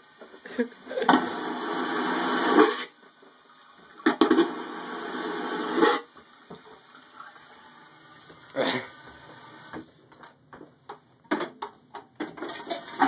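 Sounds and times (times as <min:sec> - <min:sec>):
vacuum toilet flushing: 0:00.0 - 0:10.0, 0:12.3 - 0:13.0.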